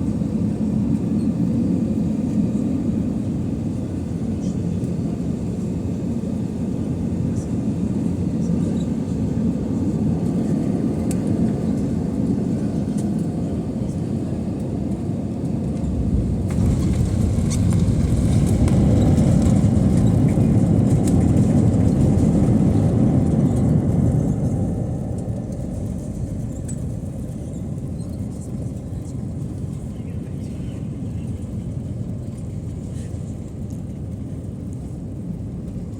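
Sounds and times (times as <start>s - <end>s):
airplane cabin low rumble: 0.0s - 35.9s.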